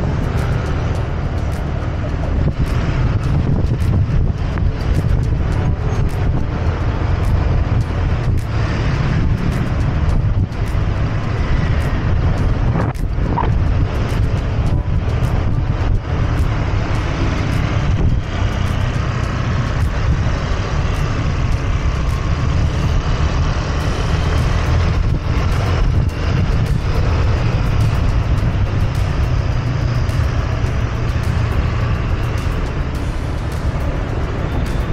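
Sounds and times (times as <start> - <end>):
motorcycle engine: 0.0 - 34.9
wind rumble on microphone: 0.0 - 34.9.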